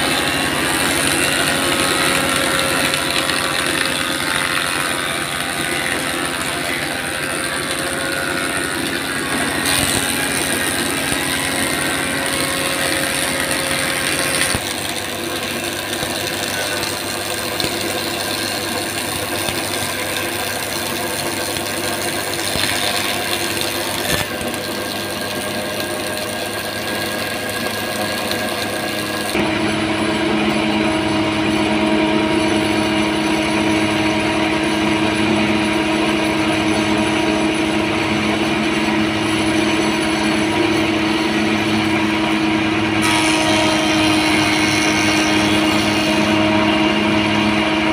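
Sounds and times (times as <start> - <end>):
wood planer running: 0.0 - 47.9.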